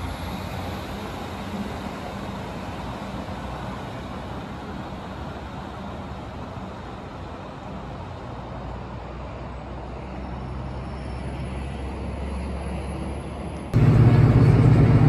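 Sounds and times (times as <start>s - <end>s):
diesel train engines droning: 0.0s - 15.0s.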